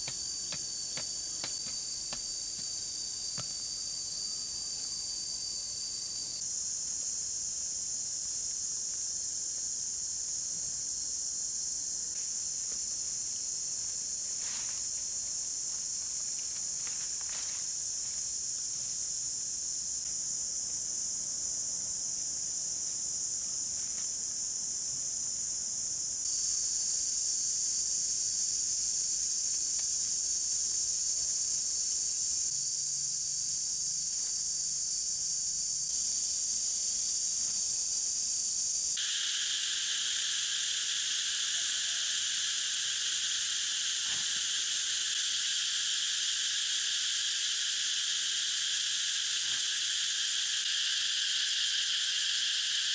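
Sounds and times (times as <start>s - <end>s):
insects chorus: 0.0s - 52.9s
lower insect voice: 0.0s - 52.9s.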